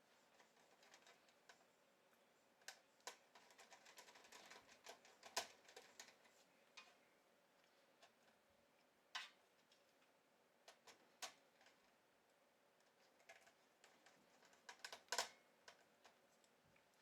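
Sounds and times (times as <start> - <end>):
small clicks of wiring work: 0.3 - 7.0, 7.6 - 12.0, 12.8 - 17.0.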